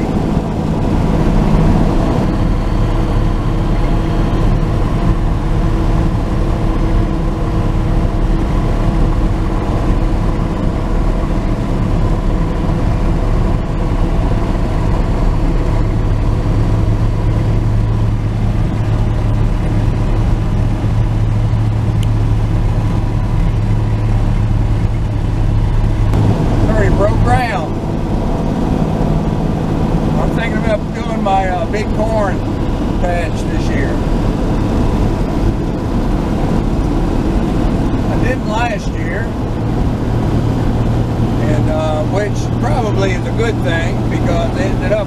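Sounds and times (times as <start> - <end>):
low hum: 0.0 - 45.0
road and wind noise: 0.0 - 45.0
truck engine drone: 0.0 - 45.0.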